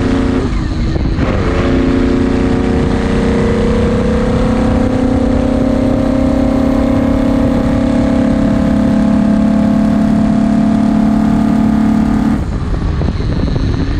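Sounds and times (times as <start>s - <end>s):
race car engine running hard: 0.0s - 13.9s
rushing wind: 0.0s - 13.9s.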